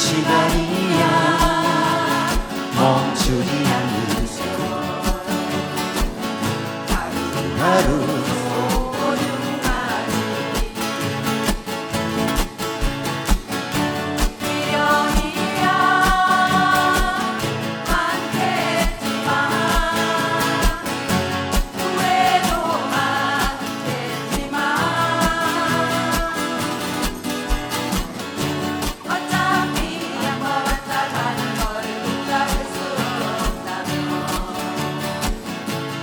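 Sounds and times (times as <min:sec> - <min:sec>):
person singing: 0:00.0 - 0:11.7, 0:14.3 - 0:28.0, 0:28.8 - 0:35.5
instrumental backing with steady beat: 0:00.0 - 0:36.0.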